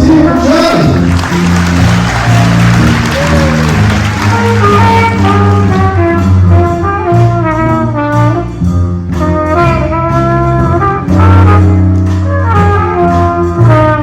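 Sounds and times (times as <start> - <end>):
school band playing: 0.0 - 14.0.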